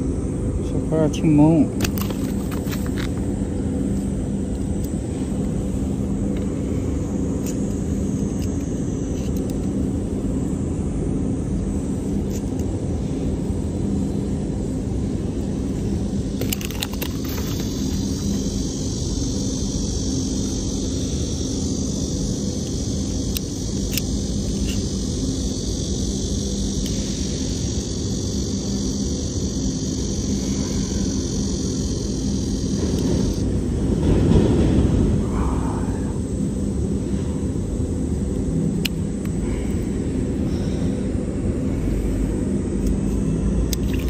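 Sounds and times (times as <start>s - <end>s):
constant low hum: 0.0s - 44.0s
steady low rumble: 0.0s - 44.0s.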